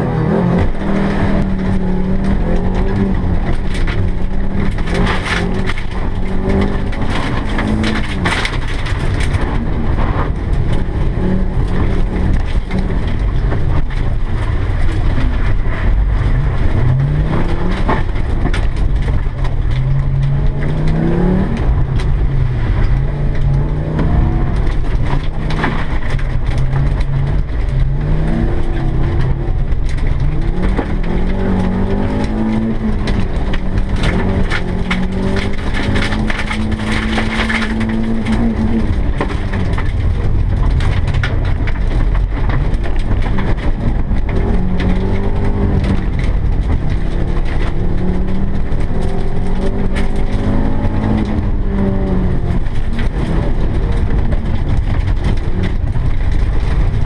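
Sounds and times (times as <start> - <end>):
rally car engine revving: 0.0 - 57.0
sharp clatters: 0.4 - 57.0.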